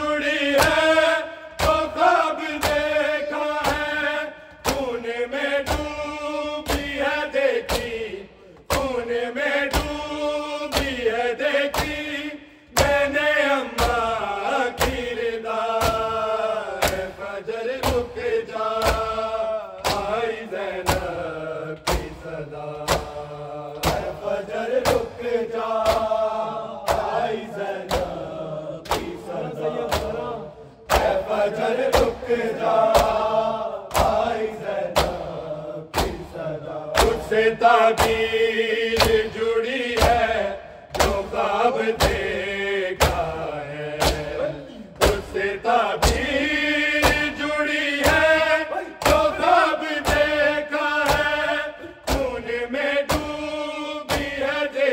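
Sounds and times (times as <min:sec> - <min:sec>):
men chanting in chorus: 0:00.0 - 0:54.9.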